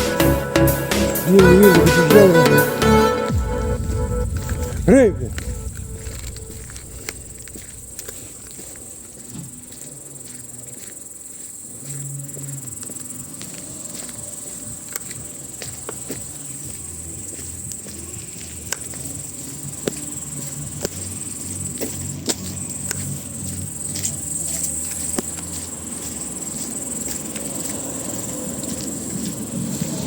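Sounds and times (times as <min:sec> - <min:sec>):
insect chorus trilling: 0:03.8 - 0:30.0.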